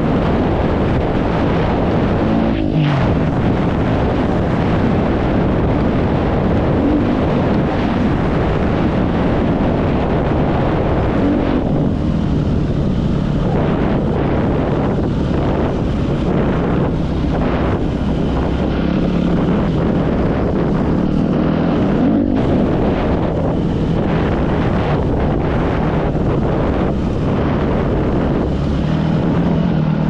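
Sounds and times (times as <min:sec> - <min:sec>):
motocross bike engine revving: 0:00.0 - 0:30.0
wind noise on microphone: 0:00.0 - 0:30.0.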